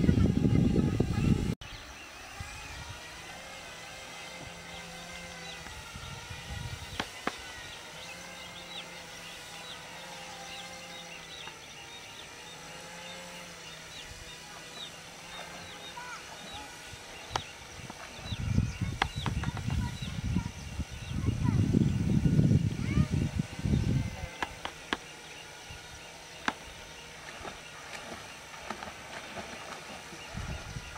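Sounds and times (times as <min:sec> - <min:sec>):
birds chirping: 0:00.0 - 0:30.9
electric drone airplane motors humming: 0:00.0 - 0:30.9.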